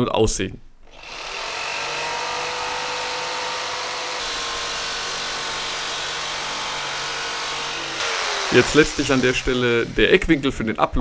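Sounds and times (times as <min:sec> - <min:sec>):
electric jigsaw cutting plastic: 0:00.9 - 0:10.3.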